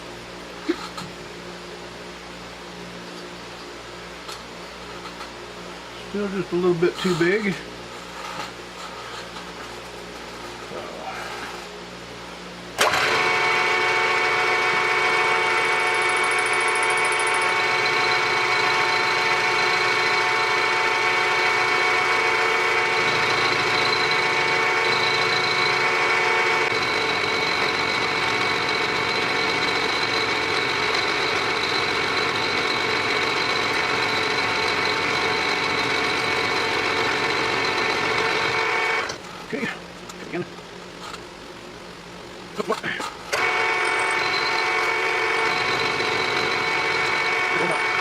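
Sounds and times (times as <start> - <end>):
milling machine whining hum: 0.0 - 48.0.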